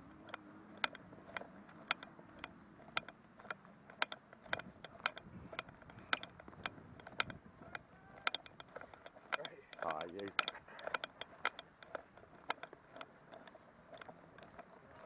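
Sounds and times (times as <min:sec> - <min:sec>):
footsteps clicking: 0:00.0 - 0:15.0.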